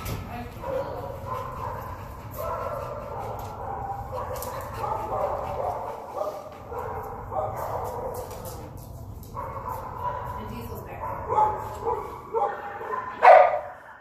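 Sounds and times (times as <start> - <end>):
dogs barking: 0.6 - 14.0.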